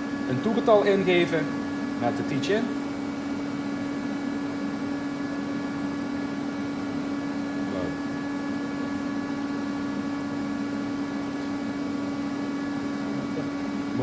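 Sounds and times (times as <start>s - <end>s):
machine hum with hiss: 0.0s - 14.0s.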